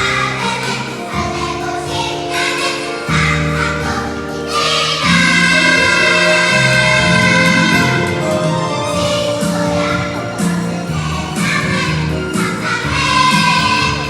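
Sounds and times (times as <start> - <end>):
children's choir singing: 0.0 - 14.0
instrumental accompaniment: 0.0 - 14.0.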